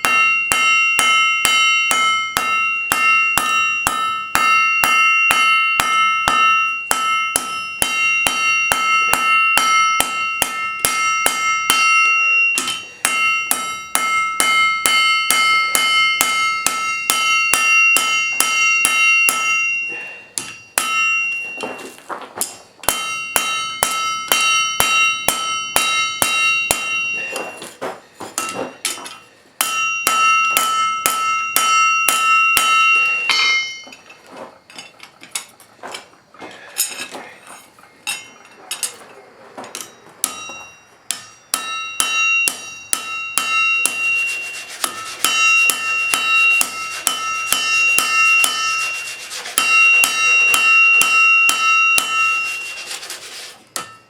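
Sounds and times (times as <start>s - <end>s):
hammer striking steel on anvil: 0.0s - 34.1s, 38.0s - 39.0s, 39.7s - 54.0s.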